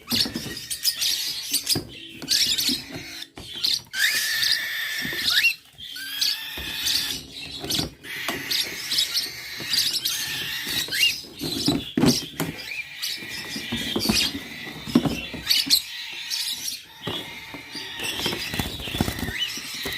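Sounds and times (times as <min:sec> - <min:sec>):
birds chirping and squeaking: 0:00.0 - 0:19.9.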